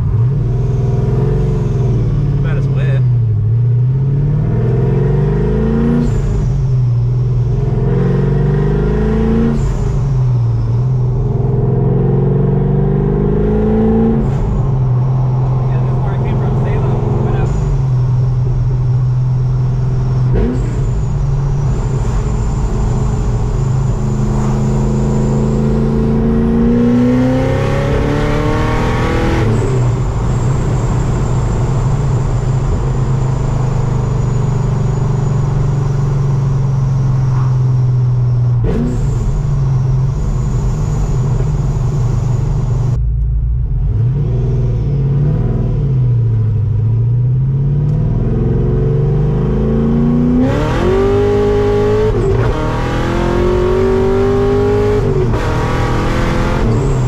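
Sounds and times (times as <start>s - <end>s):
car engine revving: 0.0s - 57.0s
high supercharger whine: 0.0s - 57.0s.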